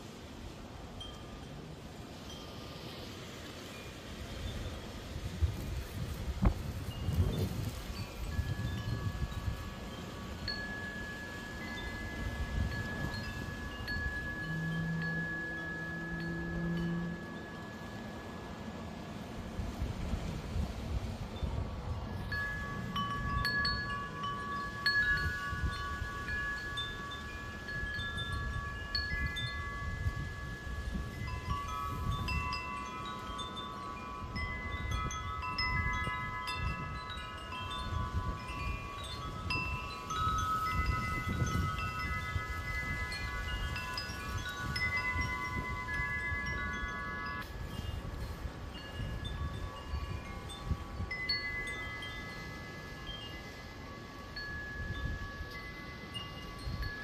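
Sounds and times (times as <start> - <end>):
wind chimes ringing: 0.0 - 57.0
wind rumble on microphone: 0.0 - 57.0.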